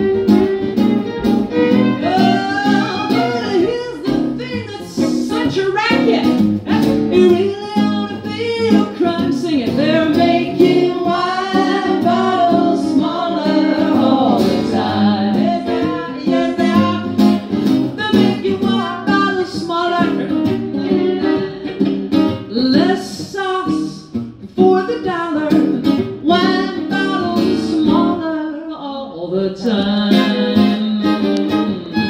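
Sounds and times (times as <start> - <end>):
acoustic guitar strumming: 0.0 - 28.2, 29.8 - 32.0
woman singing: 1.7 - 32.0.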